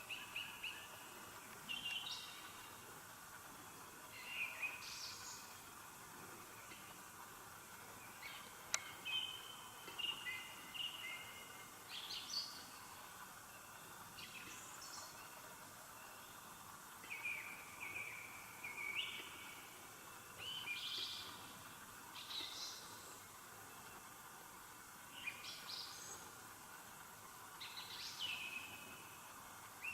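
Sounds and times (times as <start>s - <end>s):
small bird singing: 0.0s - 2.8s, 3.7s - 5.7s, 7.8s - 24.3s, 25.0s - 26.4s, 27.5s - 29.9s
faint steady hiss: 0.0s - 29.9s.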